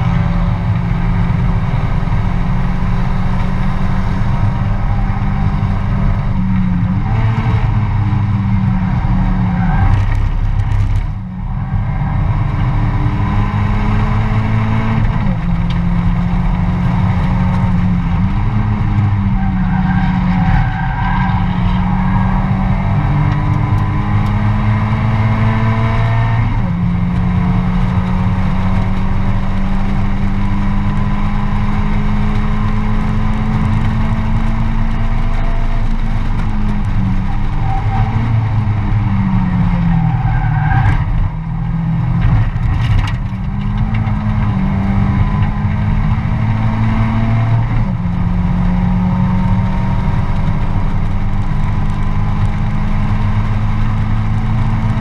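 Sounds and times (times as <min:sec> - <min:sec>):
race car engine revving hard: 0:00.0 - 0:55.0.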